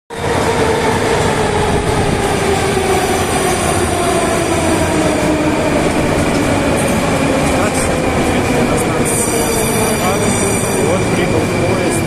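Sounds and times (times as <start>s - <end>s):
train wheels on rails: 0.1s - 12.0s.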